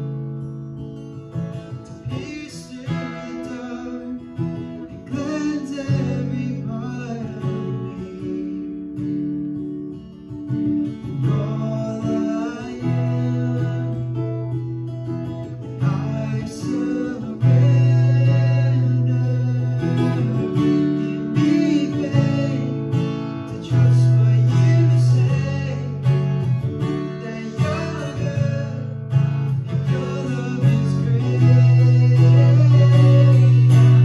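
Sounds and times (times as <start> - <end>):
acoustic guitar strumming: 0.0 - 34.0
man singing: 1.7 - 9.1, 10.9 - 14.6, 15.3 - 34.0.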